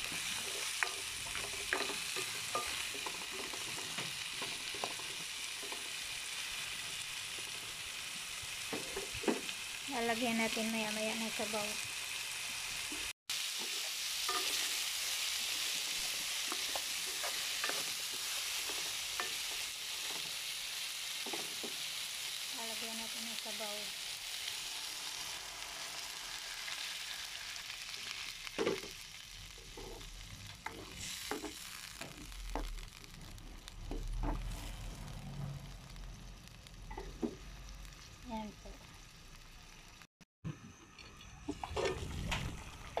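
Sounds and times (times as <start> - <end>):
vegetables sizzling in oil: 0.0 - 40.1.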